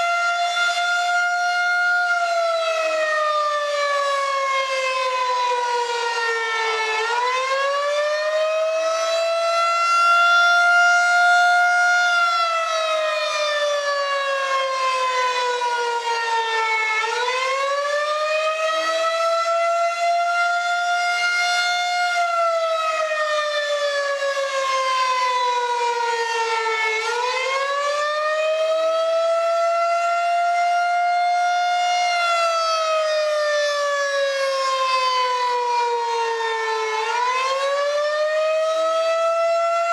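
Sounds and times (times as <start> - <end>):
warning siren rising and falling: 0.0 - 39.9.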